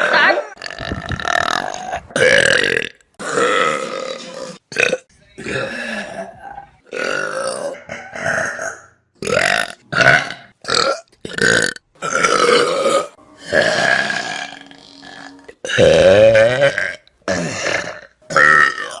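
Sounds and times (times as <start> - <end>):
person burping: 0.0 - 19.0.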